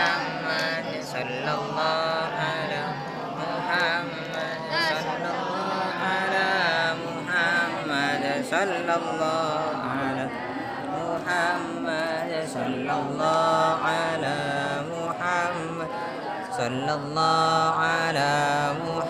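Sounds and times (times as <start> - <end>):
person chanting melodically: 0.0 - 19.0.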